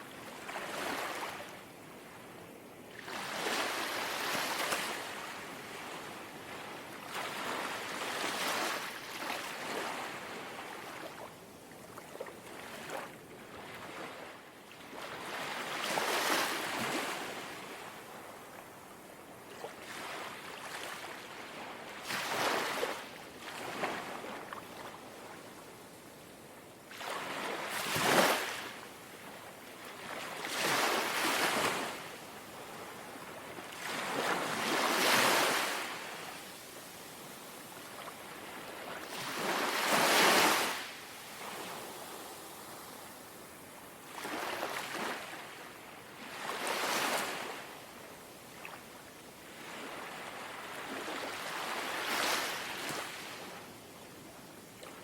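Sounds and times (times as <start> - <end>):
gentle sea waves lapping: 2.9 - 25.8, 26.9 - 53.6.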